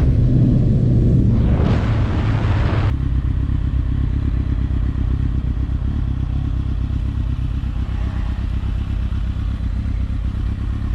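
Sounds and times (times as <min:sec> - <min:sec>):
motorcycle engine running steadily: 0:00.0 - 0:10.9.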